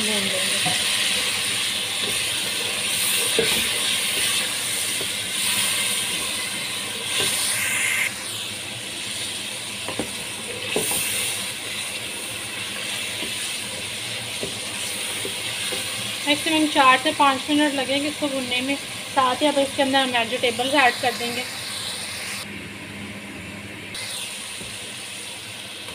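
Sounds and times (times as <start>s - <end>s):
masala sizzling in oil: 0.0s - 22.5s, 23.9s - 25.9s.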